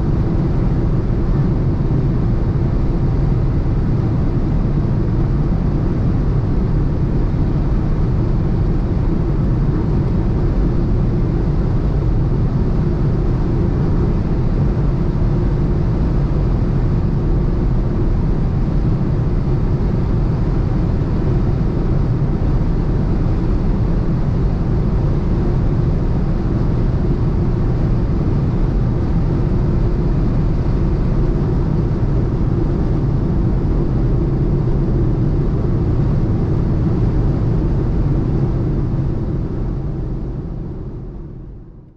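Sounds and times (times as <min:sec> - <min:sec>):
wind and tyre noise: 0:00.0 - 0:41.6.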